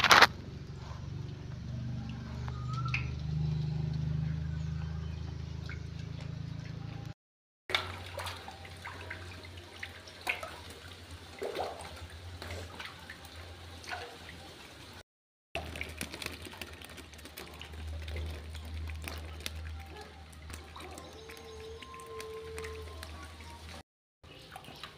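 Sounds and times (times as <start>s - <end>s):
water splashing and dripping: 0.1s - 15.0s, 15.6s - 24.9s.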